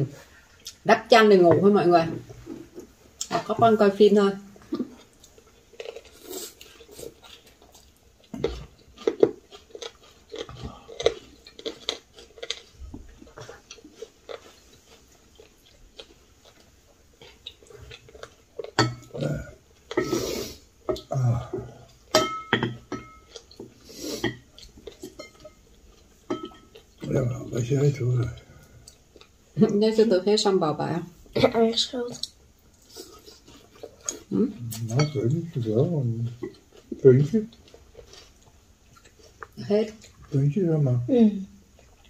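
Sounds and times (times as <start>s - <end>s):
people chewing: 0.0s - 3.8s, 4.6s - 29.9s, 31.2s - 40.5s, 41.6s - 42.0s.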